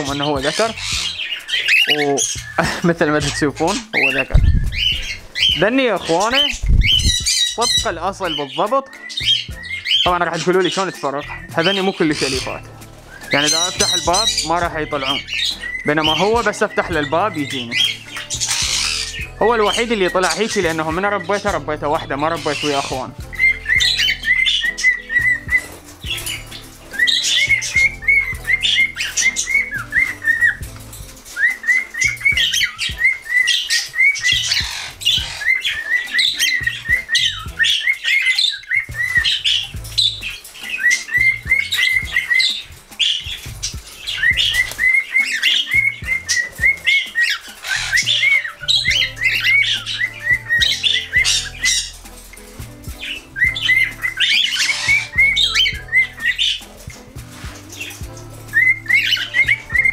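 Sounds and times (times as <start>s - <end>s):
parrots chattering and squawking: 0.0s - 59.9s.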